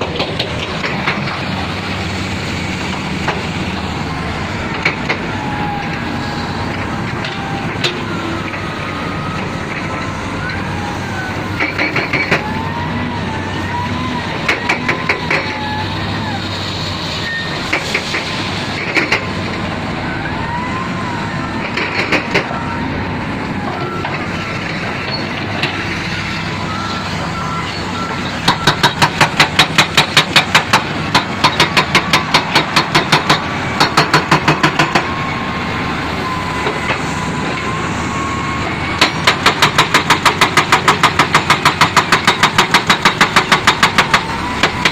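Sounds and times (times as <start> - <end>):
heavy construction machinery running: 0.0 - 44.9.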